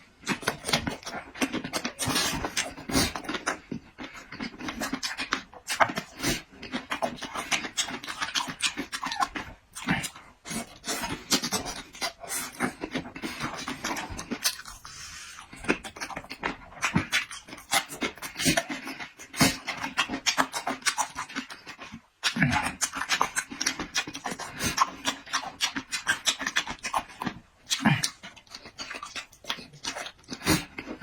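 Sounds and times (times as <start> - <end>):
person chewing and lip-smacking: 0.2 - 31.0.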